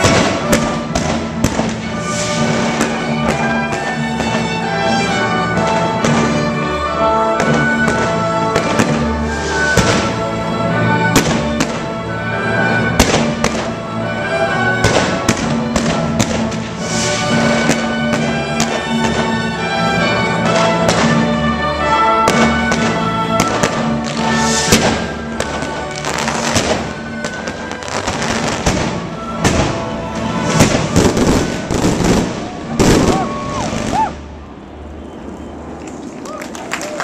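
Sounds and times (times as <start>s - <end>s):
loud music with held notes: 0.0s - 33.9s
fireworks bangs: 0.0s - 35.8s.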